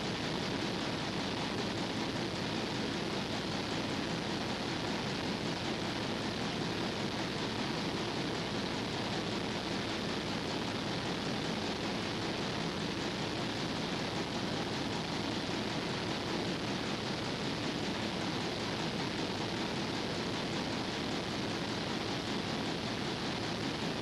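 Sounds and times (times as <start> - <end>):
video recording hiss: 0.0 - 24.0.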